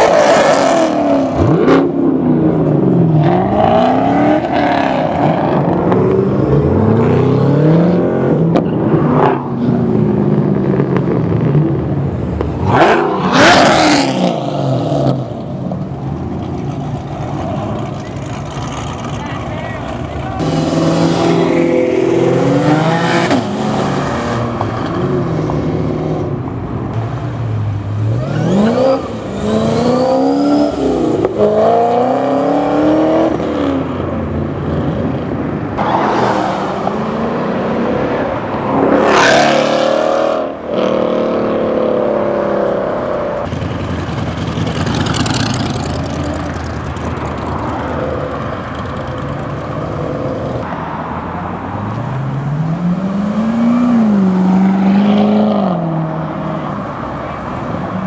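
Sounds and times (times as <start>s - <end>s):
cars accelerating past: 0.0s - 19.2s, 20.0s - 58.0s
car engines revving: 0.0s - 58.0s.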